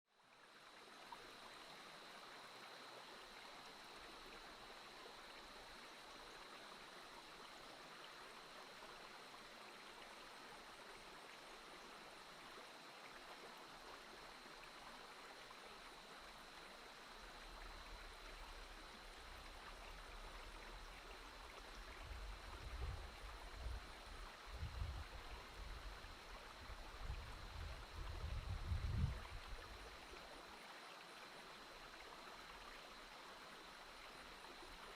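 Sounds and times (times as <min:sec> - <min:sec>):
flowing stream: 0:00.1 - 0:34.9.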